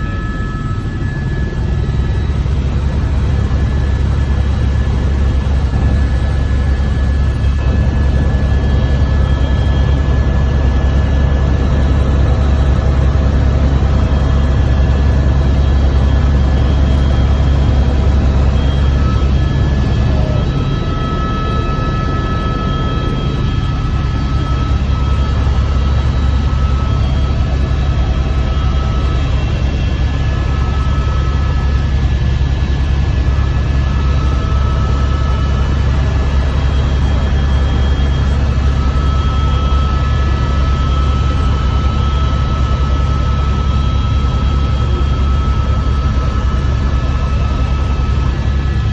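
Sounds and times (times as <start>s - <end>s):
faint high whine: 0.0s - 48.9s
helicopter rotor and engine drone: 0.0s - 48.9s.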